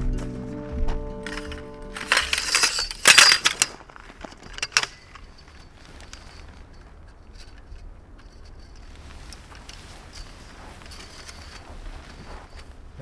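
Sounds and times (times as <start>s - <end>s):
camping gear rustling and clattering: 0.0s - 13.0s
sharp metallic clinks: 1.2s - 12.8s.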